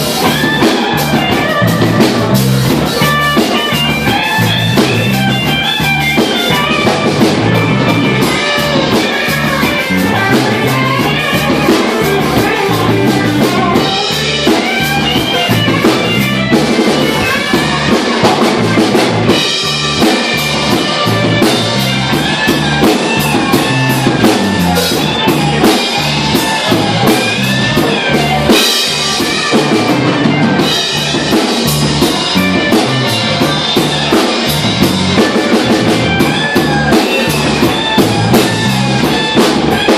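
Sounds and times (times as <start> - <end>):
bass: 0.0 - 39.9
drum kit: 0.0 - 39.9
guitar: 0.0 - 39.9.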